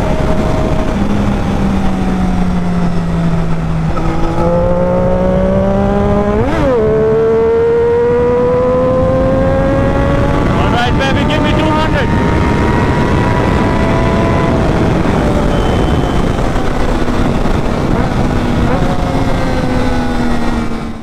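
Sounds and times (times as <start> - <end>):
motorcycle engine accelerating: 0.0 - 21.0
wind rush: 0.0 - 21.0.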